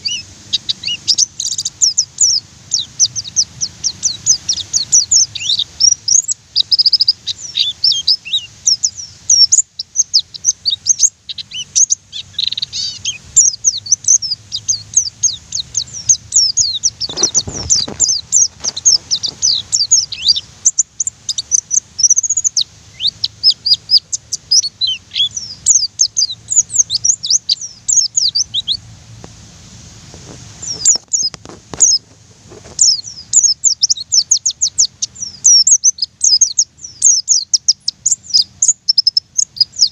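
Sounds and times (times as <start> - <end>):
bird chirps and trills: 0.0 - 28.9, 30.6 - 32.0, 32.6 - 39.9.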